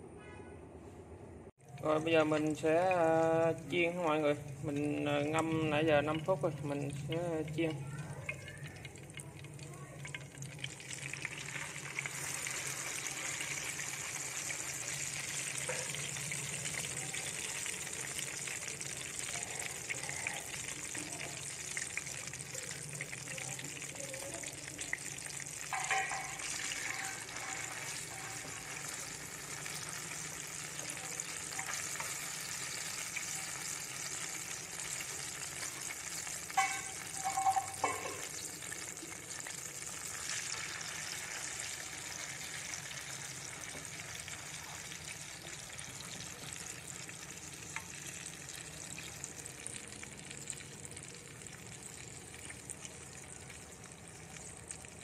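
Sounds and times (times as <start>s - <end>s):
meat sizzling in oil: 3.7s - 55.0s.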